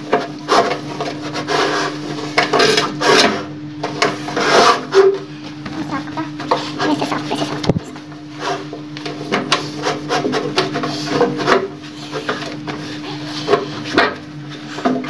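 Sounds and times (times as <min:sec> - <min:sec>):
scrubbing and scraping stove top: 0:00.0 - 0:15.0.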